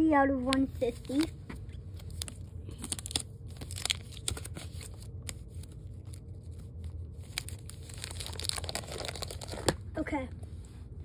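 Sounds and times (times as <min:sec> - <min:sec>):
plastic clicks and crinkly rustles: 0:00.5 - 0:09.8.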